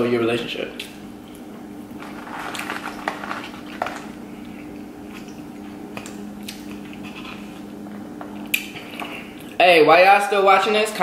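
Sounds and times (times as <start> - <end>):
steady low hum: 0.0 - 11.0
chewing and mouth sounds: 0.8 - 9.6.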